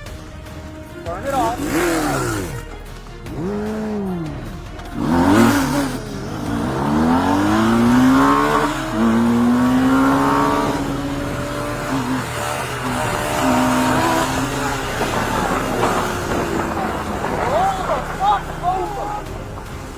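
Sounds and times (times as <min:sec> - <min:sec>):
vehicle engine running hard: 0:00.0 - 0:19.9
wind and road rush: 0:00.0 - 0:19.9.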